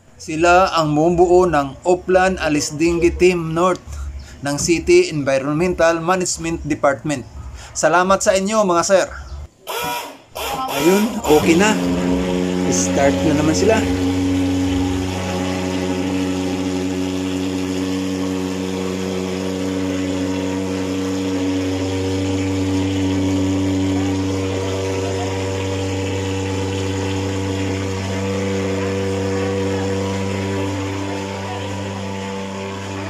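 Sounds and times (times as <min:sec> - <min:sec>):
fogging machine engine drone: 0:00.0 - 0:33.0.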